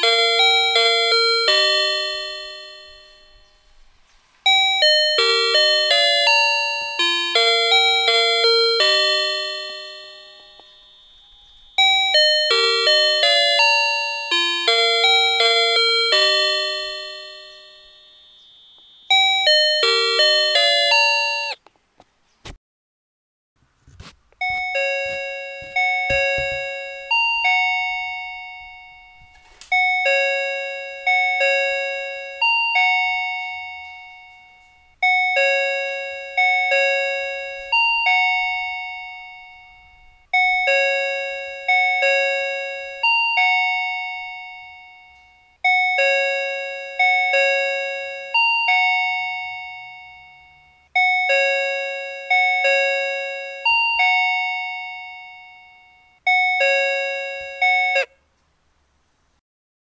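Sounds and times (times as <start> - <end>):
electronic bell-like chime: 4.5 - 21.6, 24.4 - 58.2.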